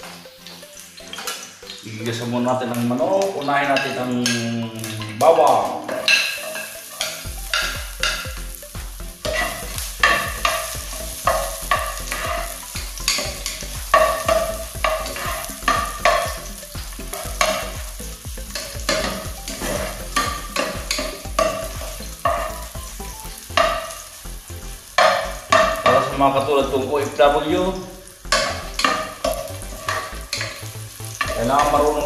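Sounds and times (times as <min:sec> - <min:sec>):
garlic sizzling in hot oil: 0:00.0 - 0:32.0.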